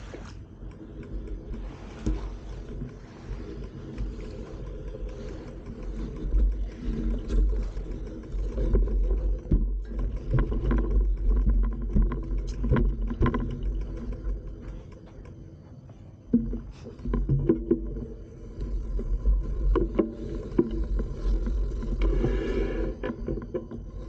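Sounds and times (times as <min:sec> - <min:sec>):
rumble of wind and trail vibration: 0:00.0 - 0:24.0.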